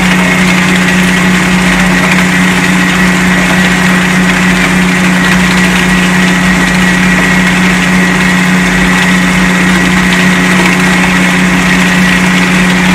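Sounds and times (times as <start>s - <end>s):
pulper humming: 0.0s - 12.9s.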